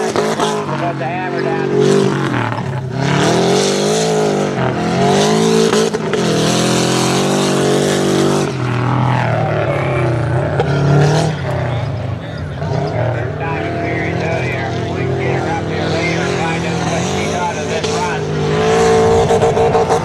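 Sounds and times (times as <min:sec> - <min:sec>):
buggy engine revving: 0:00.0 - 0:20.0.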